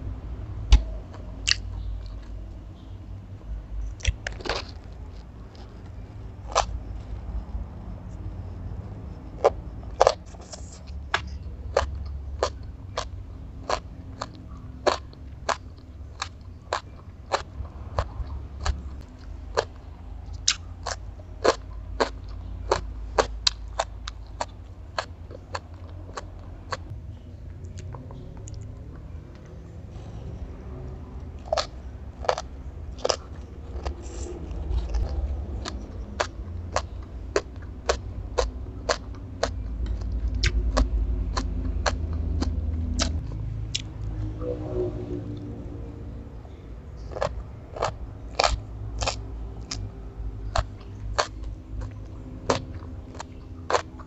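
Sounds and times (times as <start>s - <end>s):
chewing crunchy food: 0.7s - 44.2s, 46.5s - 54.0s.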